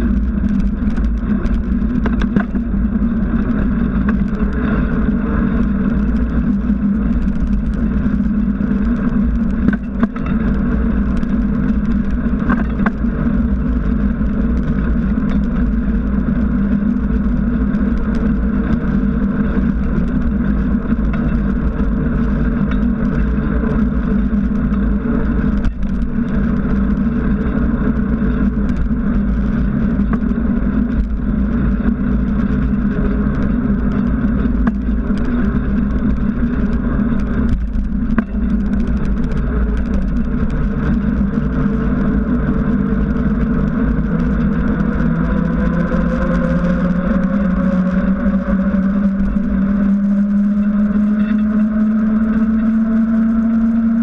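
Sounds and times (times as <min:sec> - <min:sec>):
tyre humming on asphalt: 0:00.0 - 0:54.0
wind on microphone: 0:00.0 - 0:54.0.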